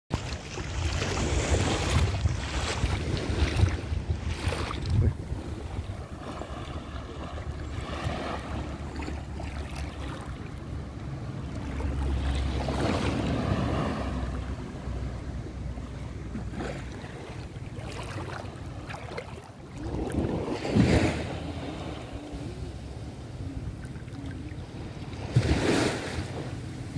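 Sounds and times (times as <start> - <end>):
small waves washing: 0.1 - 26.9
wind buffeting microphone: 0.4 - 26.9.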